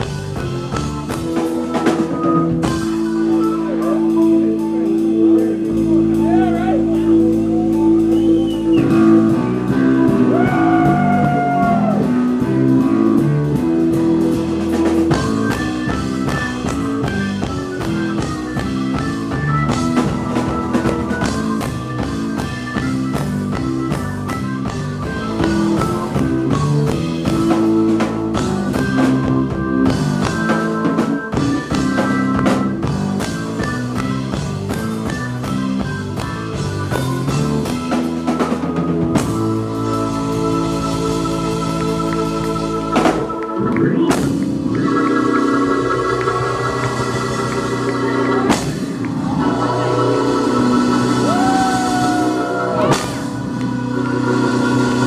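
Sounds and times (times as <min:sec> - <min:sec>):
drum kit: 0:00.0 - 0:55.0
electric bass: 0:00.0 - 0:55.0.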